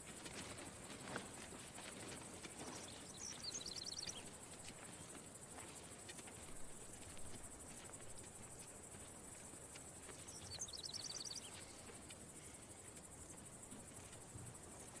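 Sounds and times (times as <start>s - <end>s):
high-pitched insect chorus: 1.0s - 15.0s.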